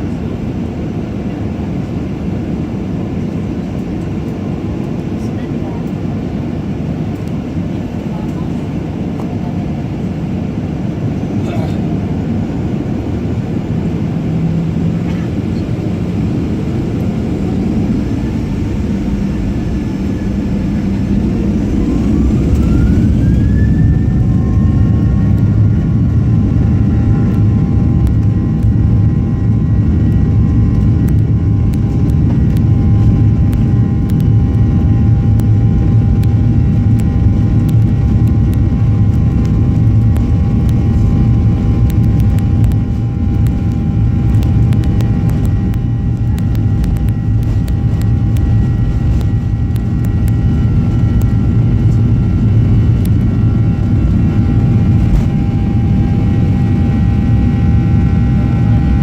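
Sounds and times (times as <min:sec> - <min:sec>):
jet engine low rumble: 0:00.0 - 0:59.0
jet turbine whine: 0:00.0 - 0:59.0.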